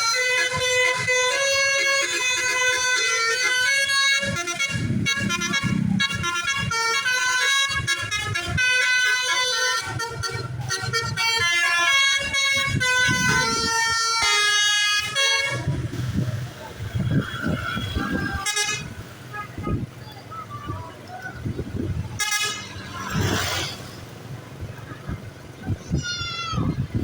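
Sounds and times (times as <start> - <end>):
musical bus horn playing a tune: 0.0 - 19.8, 21.6 - 24.1.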